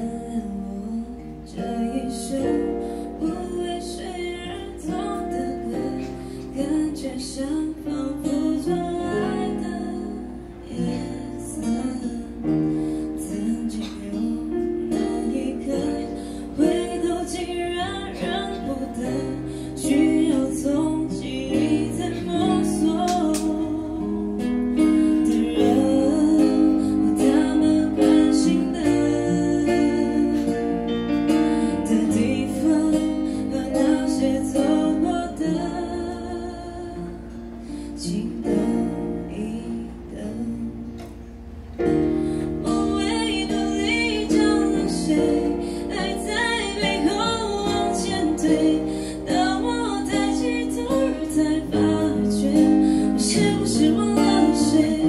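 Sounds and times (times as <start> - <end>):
acoustic guitar: 0.0 - 55.0
woman singing into a microphone: 0.0 - 55.0.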